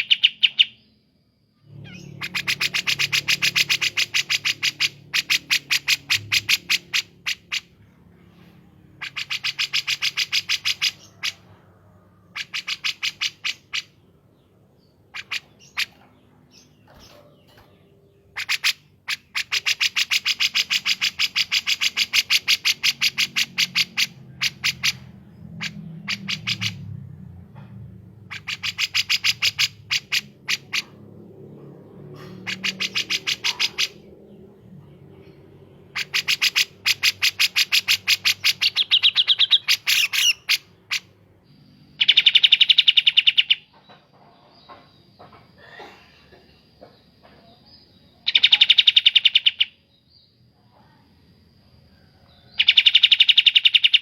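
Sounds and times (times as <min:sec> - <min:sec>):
bird song trills: 0:00.0 - 0:54.0.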